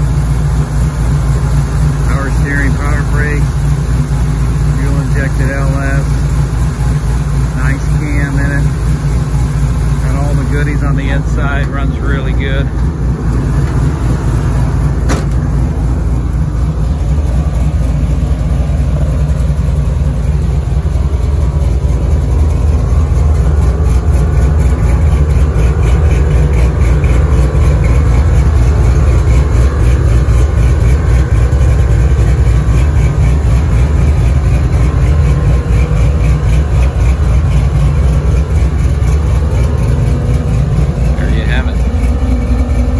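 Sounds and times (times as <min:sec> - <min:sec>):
engine idling through exhaust: 0:00.0 - 0:42.9.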